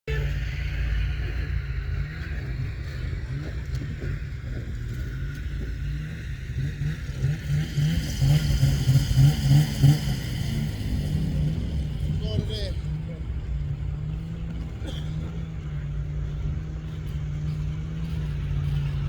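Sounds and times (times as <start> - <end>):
snowmobile engine running: 0.1 - 19.0.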